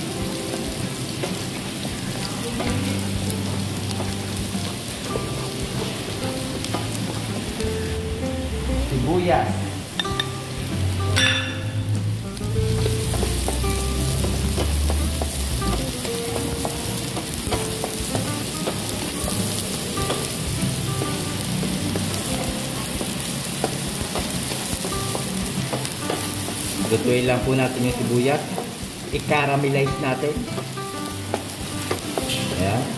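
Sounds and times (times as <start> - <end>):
onions sizzling in hot oil: 0.0 - 32.9.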